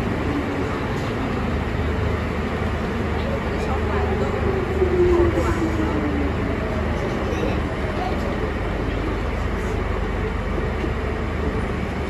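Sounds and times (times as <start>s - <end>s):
underground train rumble: 0.0s - 12.0s.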